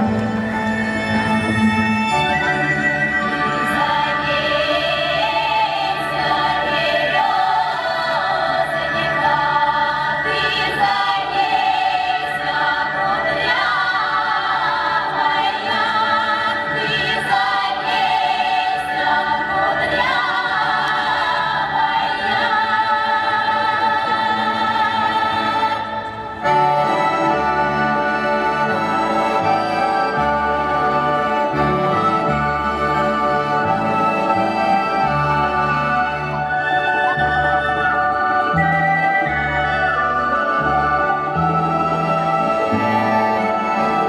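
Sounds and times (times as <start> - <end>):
women's choir singing: 3.2 - 44.0.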